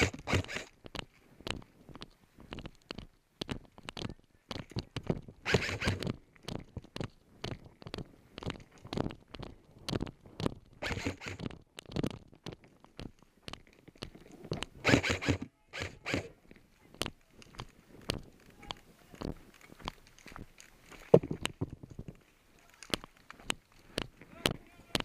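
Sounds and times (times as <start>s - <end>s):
footsteps crunching on dirt: 0.3s - 14.8s, 16.2s - 25.0s.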